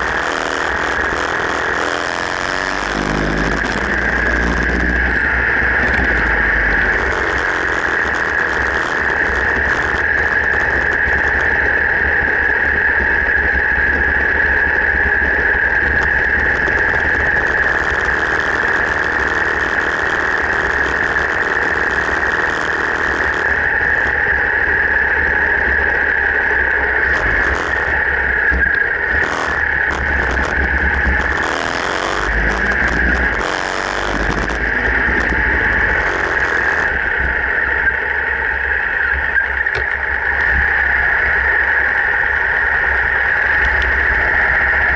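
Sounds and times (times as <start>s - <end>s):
motorcycle engine rumbling: 0.0s - 44.9s
steady noise: 0.0s - 44.9s.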